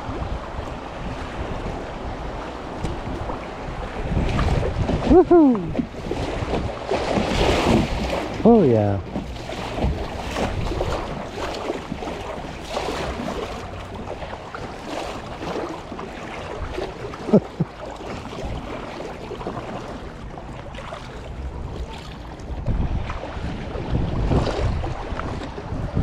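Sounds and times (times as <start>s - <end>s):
kayak paddle strokes in water: 0.0s - 26.0s
wind noise on microphone: 0.0s - 26.0s.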